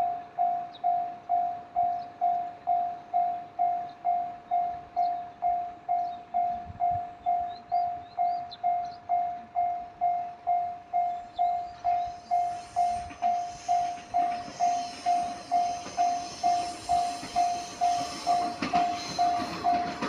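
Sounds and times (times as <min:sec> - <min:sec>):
approaching train noise: 0:00.0 - 0:20.0
level-crossing warning bell: 0:00.0 - 0:20.0.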